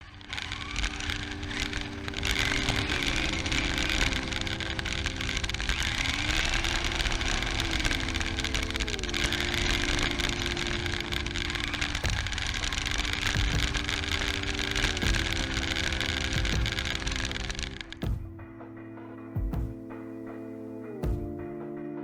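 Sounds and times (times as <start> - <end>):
engine running: 0.0 - 18.1
constant low rumble: 0.0 - 18.6.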